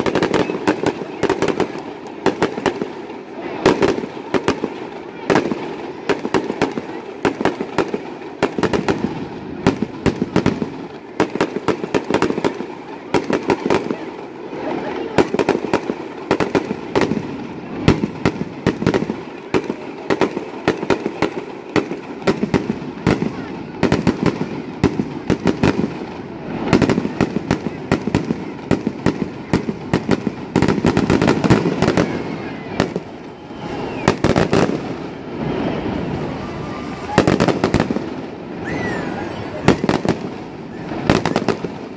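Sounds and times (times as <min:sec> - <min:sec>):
fireworks bangs and pops: 0:00.0 - 0:41.9.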